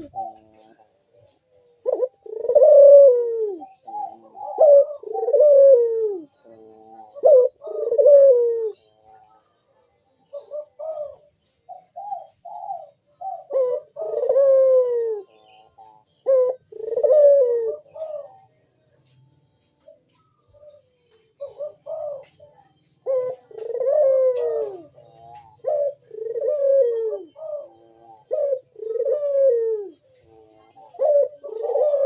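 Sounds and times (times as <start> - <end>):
dove cooing: 0.0 - 19.2, 19.8 - 32.0.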